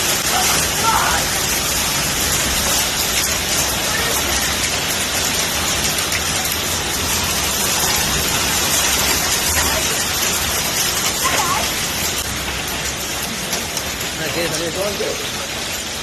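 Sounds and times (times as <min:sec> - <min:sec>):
hail and rain falling: 0:00.0 - 0:16.0.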